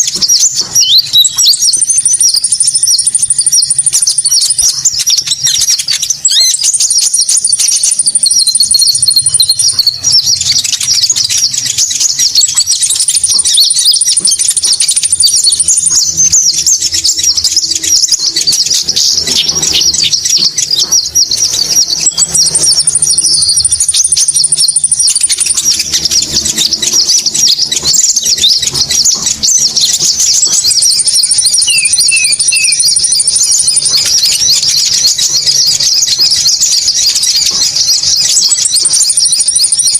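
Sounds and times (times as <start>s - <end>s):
high bird chirps: 0.0s - 39.9s
high thin bird trill: 0.0s - 39.9s.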